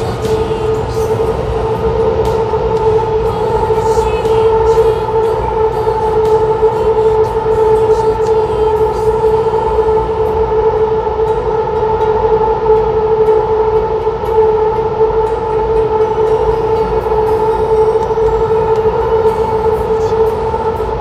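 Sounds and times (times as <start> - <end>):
electric train rumble and whine: 0.0 - 21.0.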